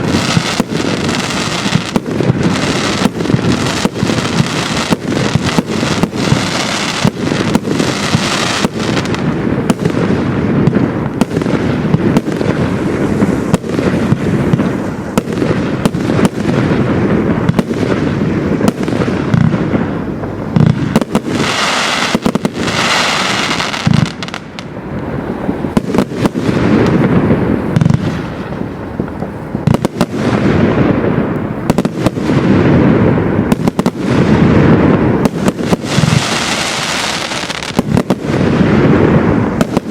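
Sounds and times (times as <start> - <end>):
firework cake shots and bursts: 0.0 - 39.9.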